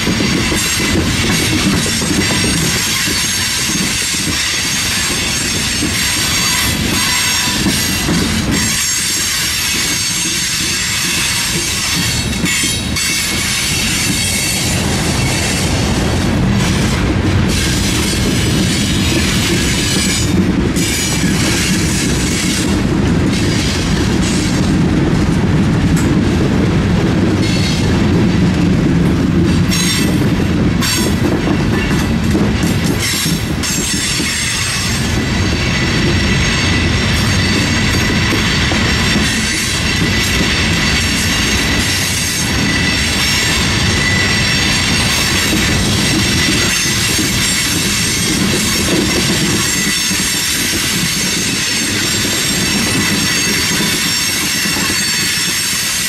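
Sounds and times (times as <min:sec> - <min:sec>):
train wheels squealing on rails: 0:00.0 - 0:24.7, 0:27.4 - 0:28.0, 0:29.5 - 0:56.0
clickety-clack over rail joints: 0:00.0 - 0:56.0
train cars rumbling: 0:00.0 - 0:56.0.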